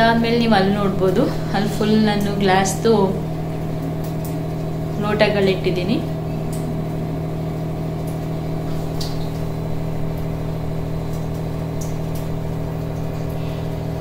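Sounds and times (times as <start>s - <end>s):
electric motor hum: 0.0s - 14.0s.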